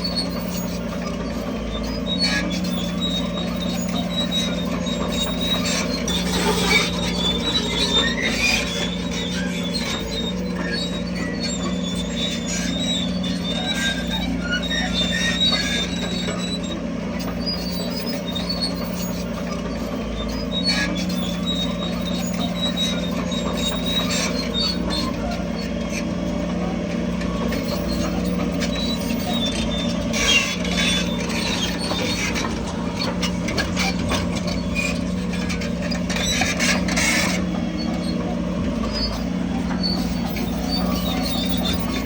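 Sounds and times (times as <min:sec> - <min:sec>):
heavy diesel engine running: 0:00.0 - 0:42.0
high-pitched squeaking: 0:00.0 - 0:42.0.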